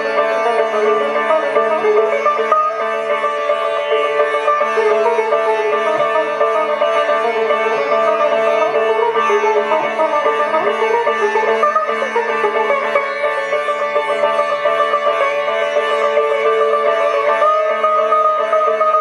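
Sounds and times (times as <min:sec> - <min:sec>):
sitar playing: 0:00.0 - 0:19.0.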